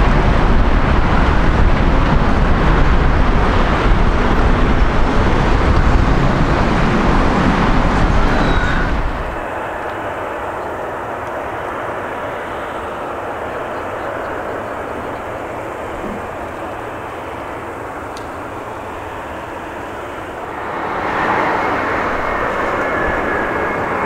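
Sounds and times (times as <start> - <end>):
jet airliner engine rumble: 0.0 - 24.0.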